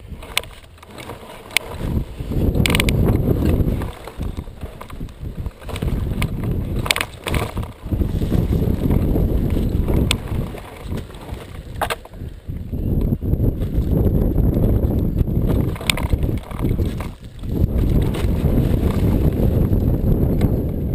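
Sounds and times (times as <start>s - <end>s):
dirt bike engine rumble: 0.0s - 20.9s.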